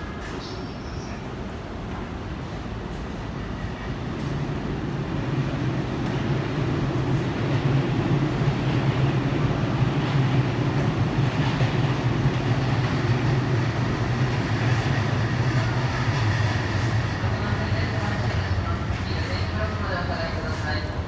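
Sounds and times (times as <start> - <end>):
electric train running past: 0.0 - 21.0.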